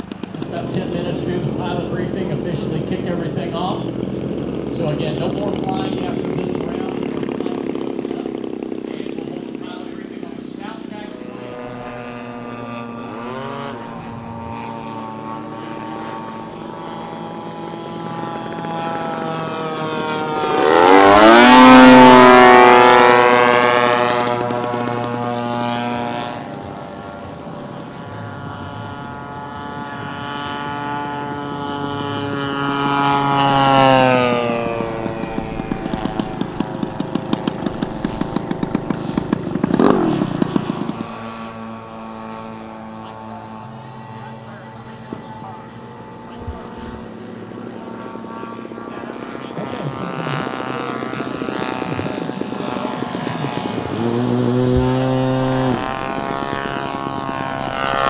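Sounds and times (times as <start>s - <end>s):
engine rapid regular popping: 0.0s - 58.0s
model airplane engine fly-by: 0.0s - 58.0s.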